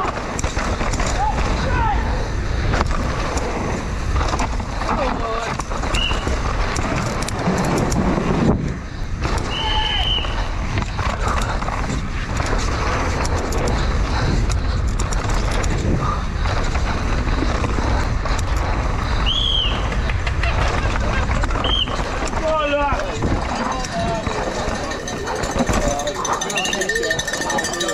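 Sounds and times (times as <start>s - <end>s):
bike clicks and rattles: 0.0s - 9.5s, 10.3s - 27.9s
bike tyres rolling on dirt: 0.0s - 27.9s.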